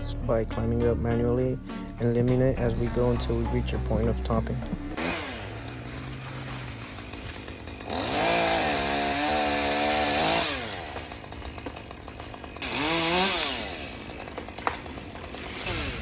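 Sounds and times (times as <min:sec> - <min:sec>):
chainsaw engine idling and revving: 0:02.6 - 0:16.0.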